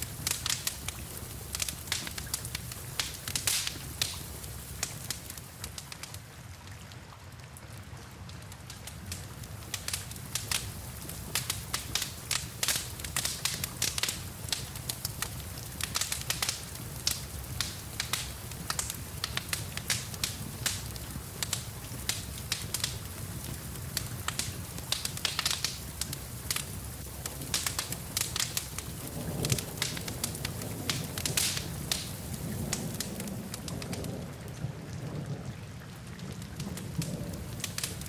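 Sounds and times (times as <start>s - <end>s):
wood fire crackling and popping: 0.0s - 6.3s, 8.5s - 34.6s, 36.1s - 38.0s
rain hissing: 0.0s - 6.4s, 8.7s - 38.0s.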